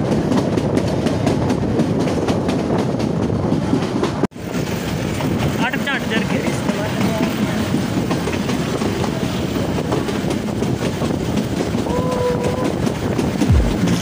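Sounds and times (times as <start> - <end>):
wheels clicking over rail joints: 0.0 - 14.0.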